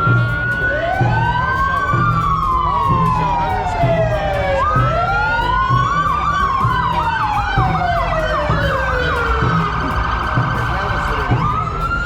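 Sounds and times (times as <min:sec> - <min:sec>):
siren wail: 0:00.0 - 0:12.0
siren yelp: 0:00.0 - 0:12.0.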